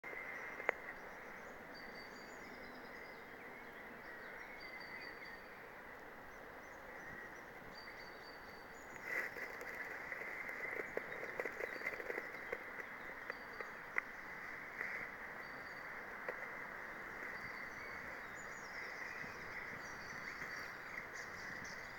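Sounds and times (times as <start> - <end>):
soft ticks and crackles: 0.0 - 3.1, 5.9 - 21.9
steady outdoor hiss: 0.0 - 21.9.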